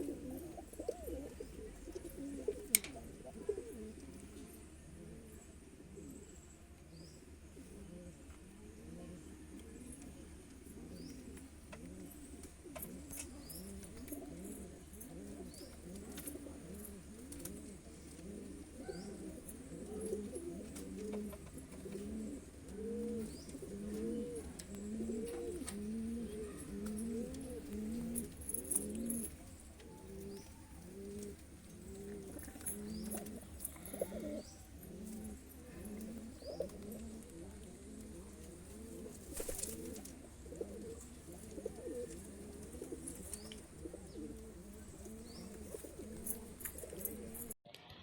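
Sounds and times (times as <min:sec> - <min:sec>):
pigeons cooing: 0:00.0 - 0:47.6.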